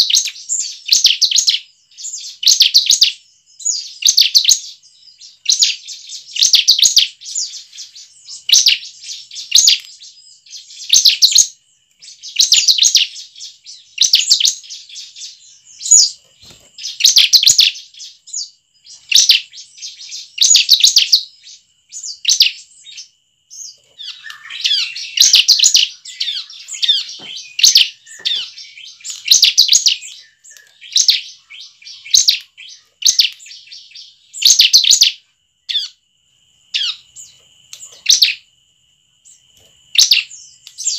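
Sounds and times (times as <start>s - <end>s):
bird singing high chattering song: 0.0s - 36.0s, 36.7s - 38.5s, 39.2s - 40.9s.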